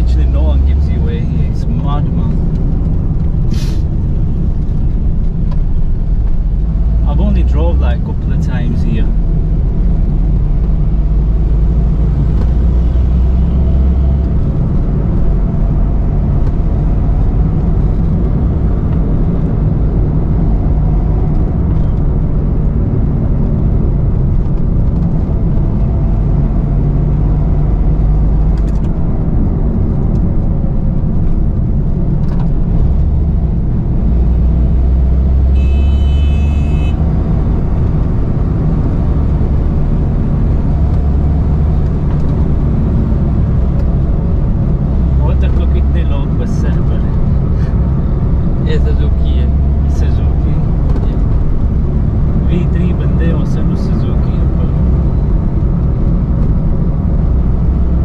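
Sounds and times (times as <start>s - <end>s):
car engine drone: 0.0s - 58.0s
road noise: 0.0s - 58.0s.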